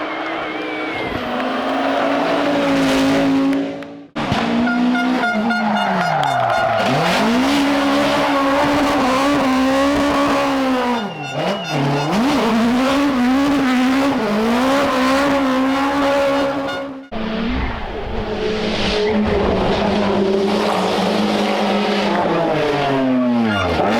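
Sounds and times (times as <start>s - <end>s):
rally car engine at full throttle: 0.0s - 23.9s.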